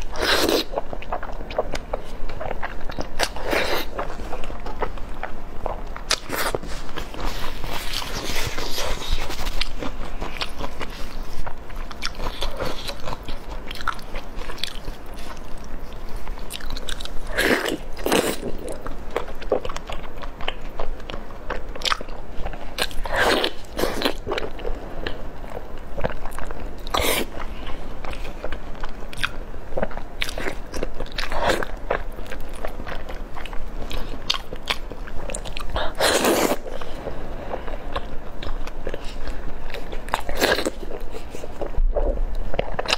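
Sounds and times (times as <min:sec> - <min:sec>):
wet chewing and mouth clicks: 0:00.1 - 0:42.9.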